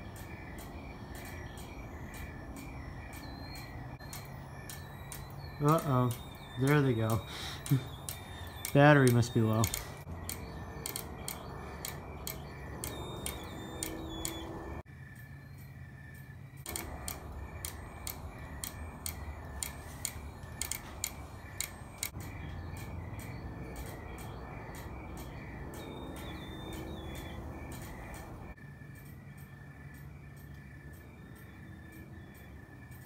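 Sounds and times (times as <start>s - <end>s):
fire alarm clicking: 0.0s - 14.8s, 16.6s - 33.0s.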